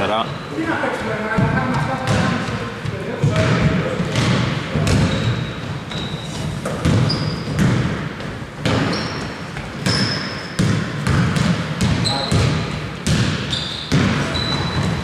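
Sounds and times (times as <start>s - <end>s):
shoes squeaking on court: 0.0s - 15.0s
basketball bouncing: 1.3s - 15.0s.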